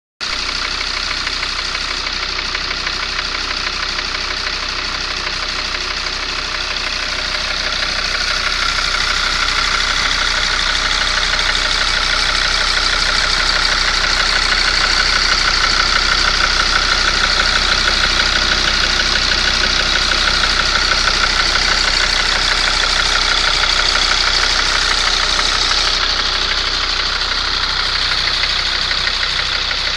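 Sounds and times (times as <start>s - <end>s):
diesel engine idling: 0.2s - 29.9s
engine knocking: 0.2s - 29.9s.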